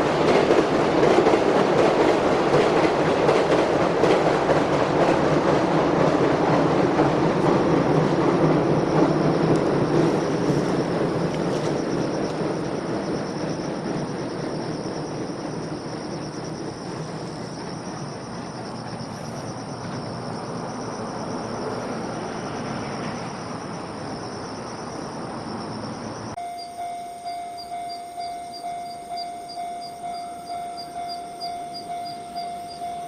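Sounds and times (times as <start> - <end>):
freight train rumbling past: 0.0 - 33.0
insects chirping: 0.0 - 33.0.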